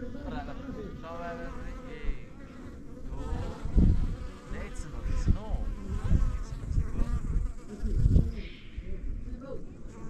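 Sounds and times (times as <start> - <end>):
insects buzzing: 0.0 - 8.8.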